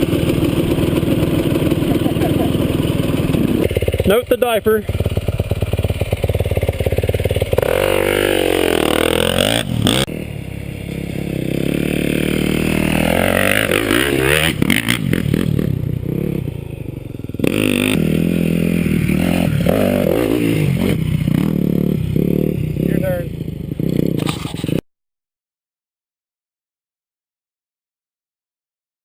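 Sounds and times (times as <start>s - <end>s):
dirt bike engine revving: 0.0s - 24.8s.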